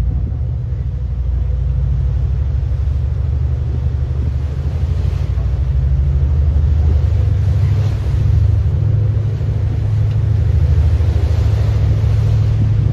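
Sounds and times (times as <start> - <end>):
ship rumbling at sea: 0.0 - 12.9
wind buffeting microphone: 0.0 - 12.9.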